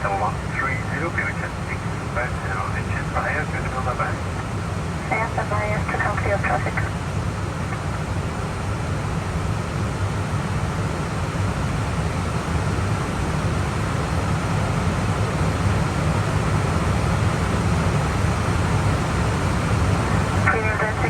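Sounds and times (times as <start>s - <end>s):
airflow rushing in cockpit: 0.0s - 21.0s
jet engine rumble: 0.0s - 21.0s.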